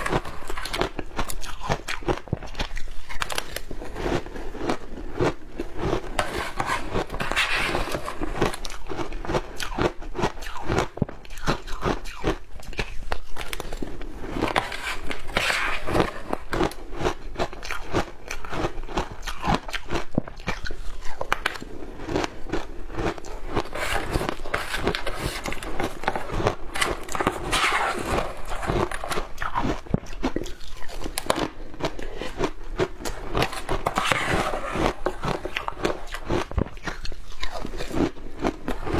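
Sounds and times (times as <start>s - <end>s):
chewing shaved ice crunches: 0.1s - 6.2s, 8.1s - 15.1s, 16.2s - 38.9s.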